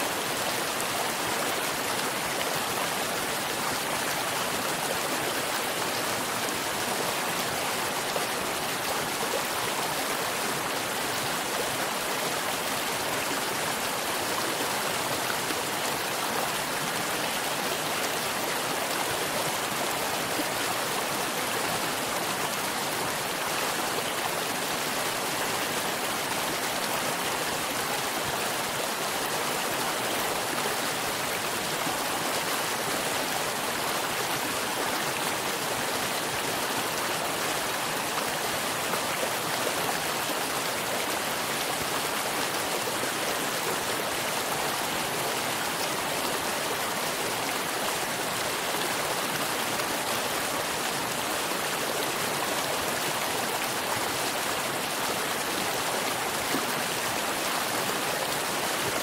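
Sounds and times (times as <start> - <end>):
stream rushing over stones: 0.0 - 59.0.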